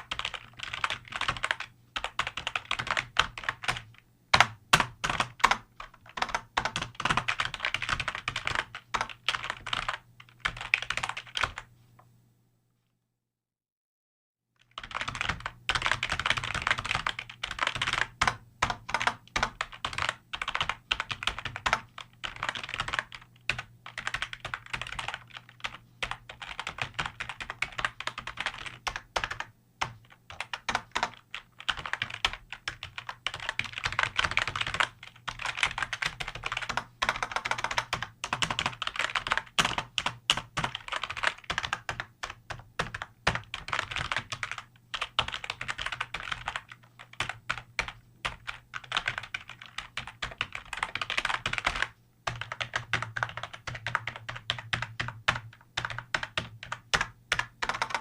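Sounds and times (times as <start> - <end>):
fast keyboard typing: 0.0 - 11.7, 14.6 - 58.0.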